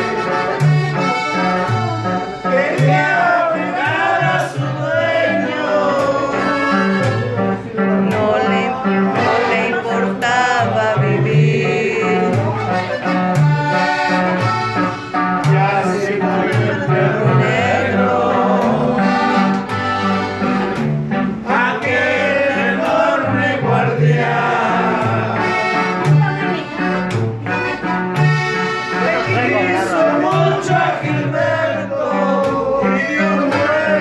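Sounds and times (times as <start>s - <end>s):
accordion: 0.0s - 34.0s
guitar: 0.0s - 34.0s
upright bass line: 0.0s - 34.0s
man singing: 1.8s - 19.5s, 21.4s - 26.3s, 28.9s - 34.0s.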